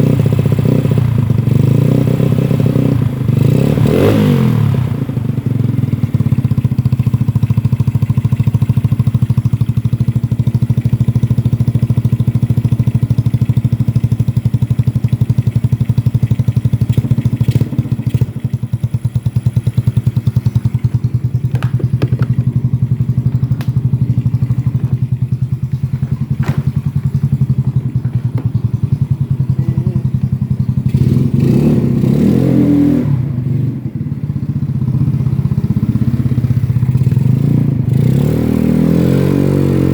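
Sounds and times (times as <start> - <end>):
scooter engine idling: 0.0 - 38.8
scooter engine revving: 0.0 - 39.9.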